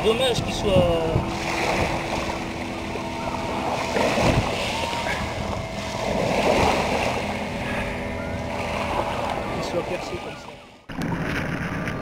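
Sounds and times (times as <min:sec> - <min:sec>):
waves splashing against boat hull: 0:00.0 - 0:12.0.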